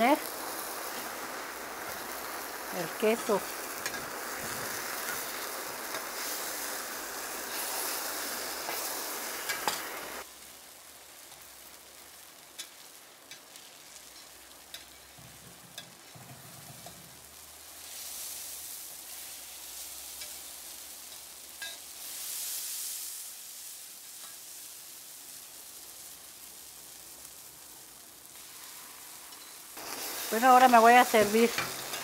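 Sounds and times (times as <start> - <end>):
tortillas sizzling in oil: 0.0 - 32.0.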